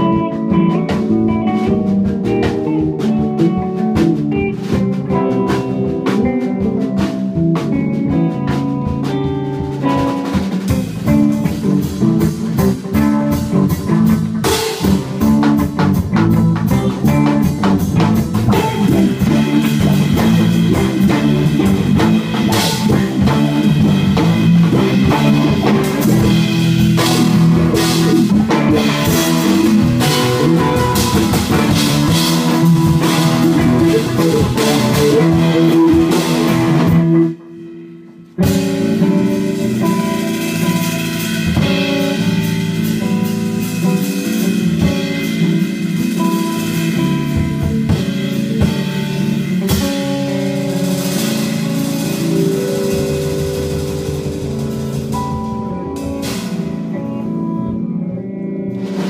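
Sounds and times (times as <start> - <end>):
jazz band playing: 0.0 - 59.0.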